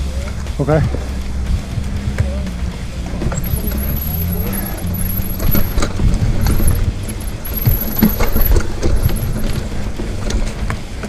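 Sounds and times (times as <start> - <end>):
bike chain and parts rattling: 0.0 - 11.0
low rumble of tyres on dirt: 0.0 - 11.0.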